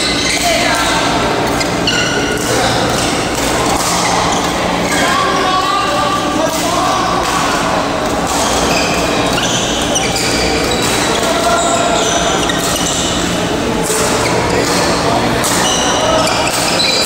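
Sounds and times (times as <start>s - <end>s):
shoes squeaking on court floor: 0.0s - 5.4s, 8.0s - 17.0s.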